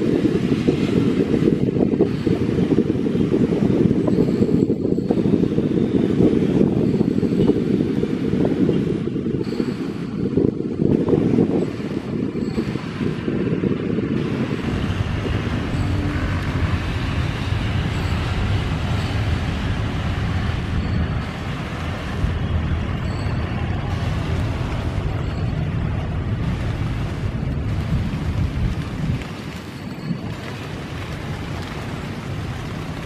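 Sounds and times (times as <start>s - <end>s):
wind buffeting microphone: 0.0s - 33.0s
rain hissing: 5.0s - 33.0s.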